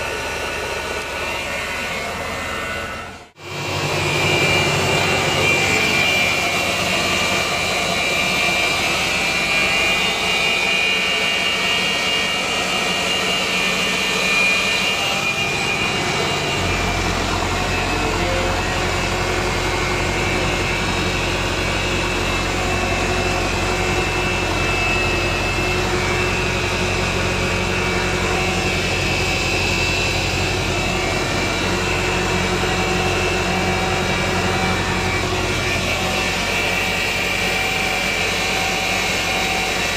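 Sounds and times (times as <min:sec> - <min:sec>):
high fan whine: 0:00.0 - 0:39.9
tractor engine running: 0:00.0 - 0:39.9.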